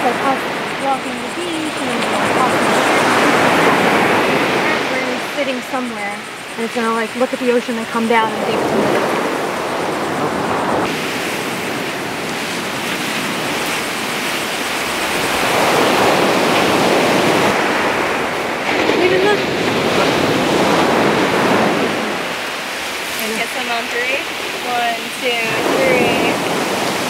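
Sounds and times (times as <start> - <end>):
ocean surf breaking on sand: 0.0 - 27.0.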